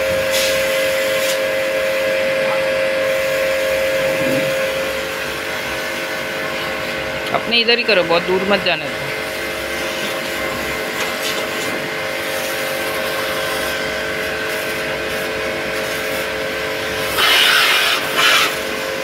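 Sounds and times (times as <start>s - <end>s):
water jet hissing: 0.0s - 7.0s, 8.9s - 18.8s
pump motor humming: 0.0s - 19.0s.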